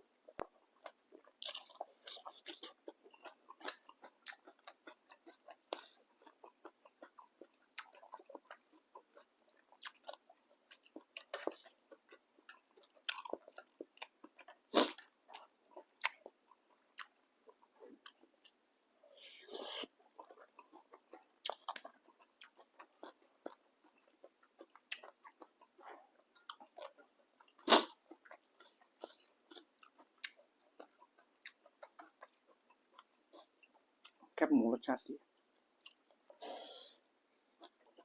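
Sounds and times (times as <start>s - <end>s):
person chewing noodles: 0.2s - 34.4s, 35.2s - 38.0s.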